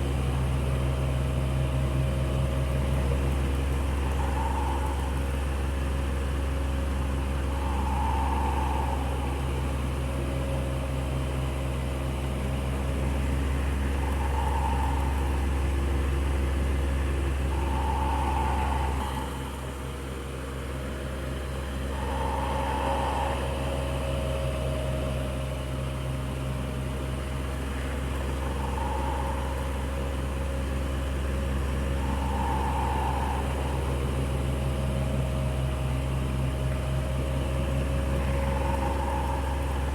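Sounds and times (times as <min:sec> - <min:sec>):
electric fan whirring: 0:00.0 - 0:39.9.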